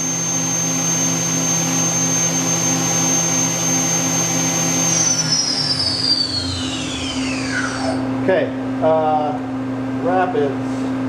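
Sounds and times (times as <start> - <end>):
machine spindle high whine: 0.0 - 8.9
machine hum: 0.0 - 11.0.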